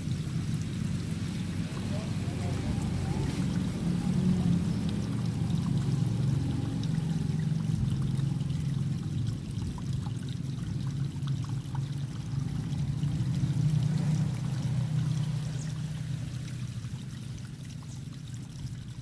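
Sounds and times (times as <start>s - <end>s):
water running in a ditch: 0.0s - 19.0s.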